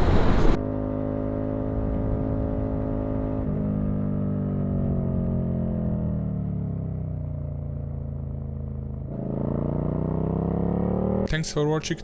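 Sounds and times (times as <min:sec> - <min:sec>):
motorcycle engine running: 0:00.4 - 0:11.3.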